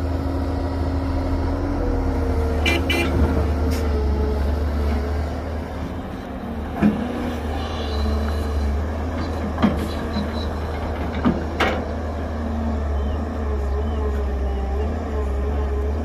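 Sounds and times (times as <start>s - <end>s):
heavy diesel machinery rumbling: 0.0s - 16.0s.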